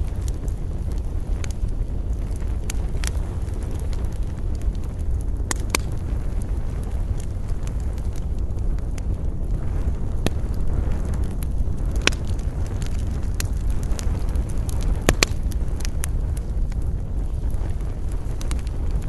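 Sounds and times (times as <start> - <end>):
campfire crackling and popping: 0.0 - 19.0
low rumble of wind: 0.0 - 19.0.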